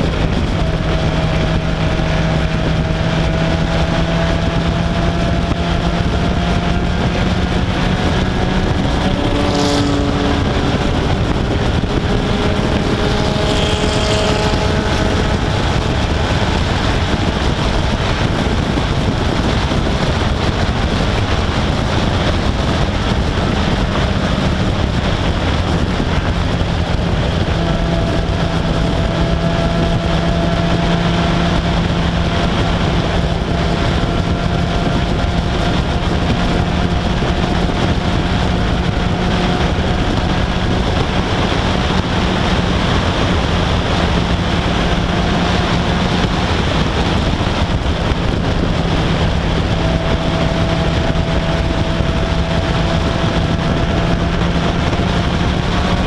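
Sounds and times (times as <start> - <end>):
race car engine running: 0.0 - 56.0
wind rush on microphone: 0.0 - 56.0.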